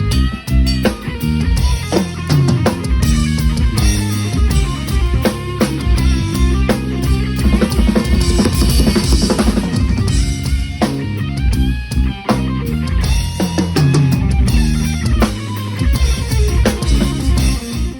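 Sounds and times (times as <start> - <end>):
backing track: 0.0 - 17.9
drum kit playing: 0.0 - 17.9.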